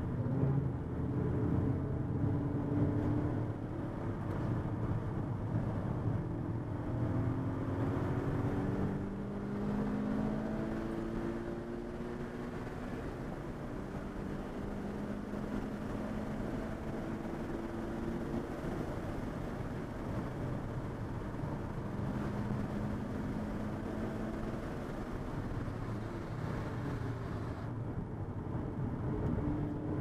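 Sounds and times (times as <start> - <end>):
car engine accelerating: 0.0 - 30.0
road and tyre rumble: 0.0 - 30.0.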